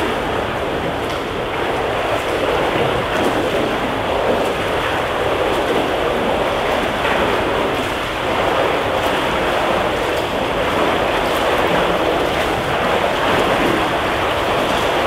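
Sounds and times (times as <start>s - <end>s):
water splashing in swimming pool: 0.0s - 15.0s.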